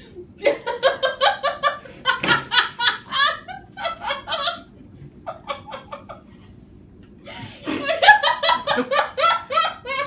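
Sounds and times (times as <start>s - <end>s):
hearty laughter: 0.4s - 6.6s, 7.3s - 10.0s.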